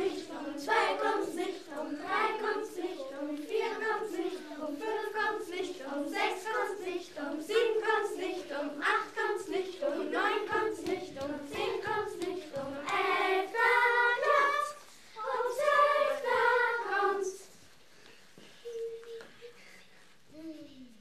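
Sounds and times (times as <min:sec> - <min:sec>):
children singing: 0:00.0 - 0:17.5.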